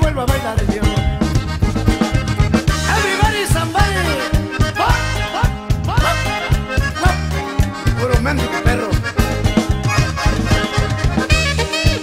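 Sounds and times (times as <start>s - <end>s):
instrumental cumbia dance music: 0.0s - 12.0s.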